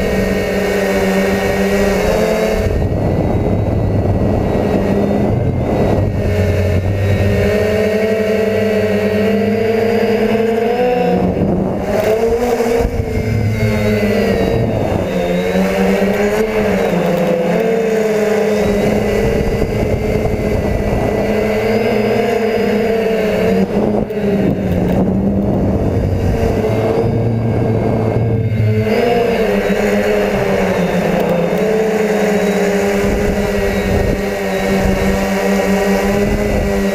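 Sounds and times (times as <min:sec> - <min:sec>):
drone motors whining: 0:00.0 - 0:36.9
wind noise: 0:00.0 - 0:36.9.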